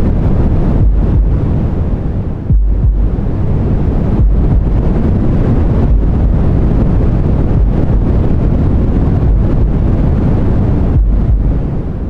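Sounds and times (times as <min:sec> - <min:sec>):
deep white noise hiss: 0:00.0 - 0:12.0.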